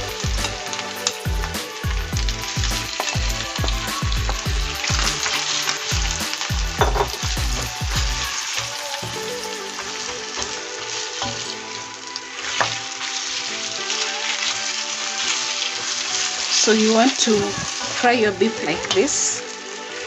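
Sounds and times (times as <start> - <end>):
beef sizzling in hot oil: 0.0 - 20.0.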